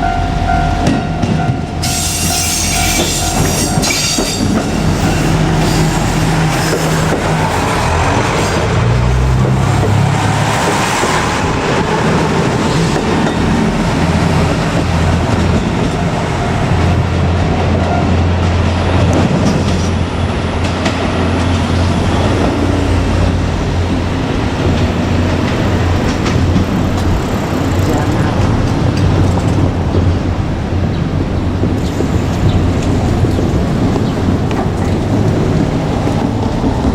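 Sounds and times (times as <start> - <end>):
train wheels on rails: 0.0 - 36.9.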